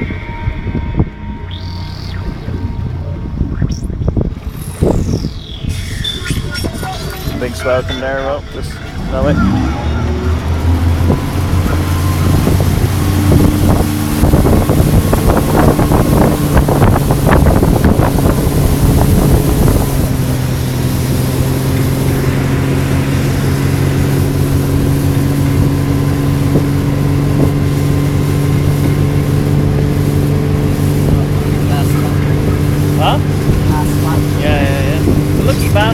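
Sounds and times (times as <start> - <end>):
wind on microphone: 0.0 - 7.8, 9.0 - 35.9
churning water: 0.0 - 35.9
motorboat engine: 0.0 - 35.9.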